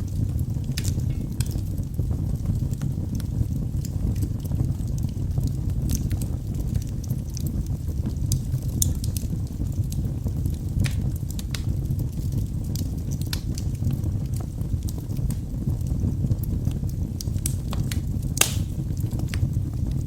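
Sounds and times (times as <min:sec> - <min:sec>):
burning logs crackling and popping: 0:00.0 - 0:20.0
rumble of fire flames: 0:00.0 - 0:20.0.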